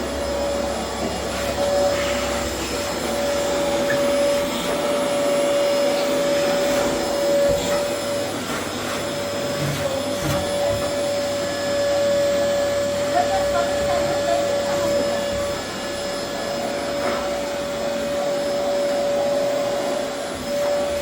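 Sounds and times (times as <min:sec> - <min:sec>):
motor-driven blower whirring: 0:00.0 - 0:21.0.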